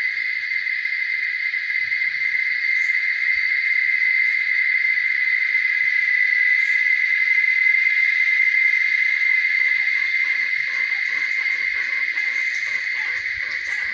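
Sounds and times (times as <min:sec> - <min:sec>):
high-pitched insect drone: 0:00.0 - 0:13.9.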